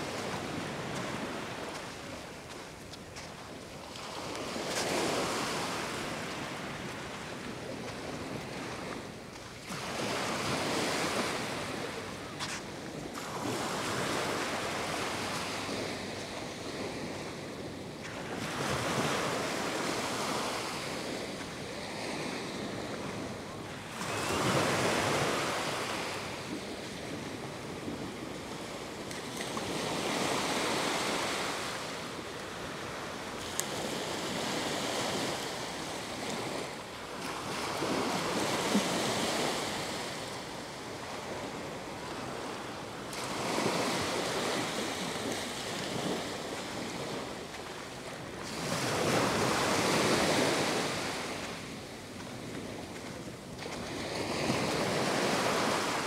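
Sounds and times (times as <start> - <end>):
waves washing on sandy beach: 0.0 - 56.0.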